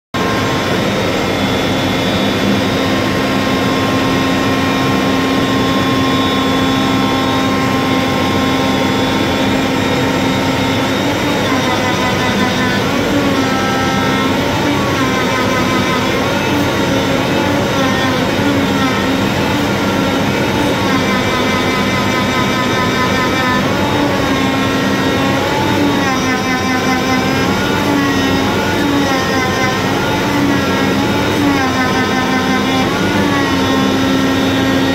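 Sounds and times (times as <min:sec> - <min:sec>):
router spindle milling board: 0:00.2 - 0:34.9.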